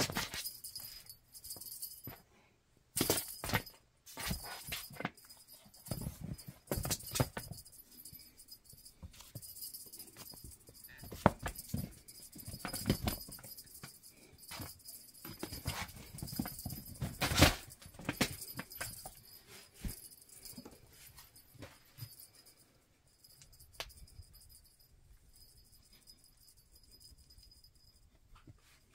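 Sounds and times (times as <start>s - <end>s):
light jingling: 0.0s - 28.9s.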